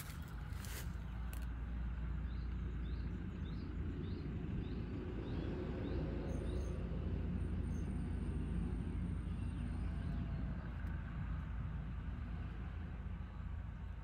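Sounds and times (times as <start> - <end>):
distant traffic rumble: 0.0 - 14.0.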